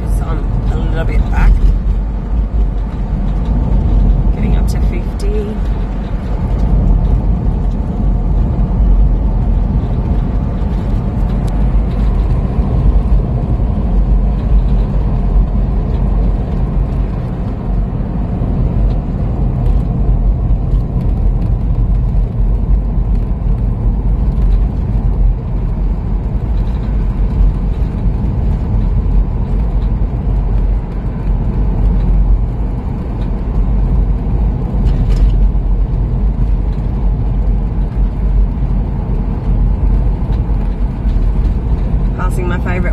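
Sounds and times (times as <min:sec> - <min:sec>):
car engine and tyres rumbling: 0:00.0 - 0:42.9.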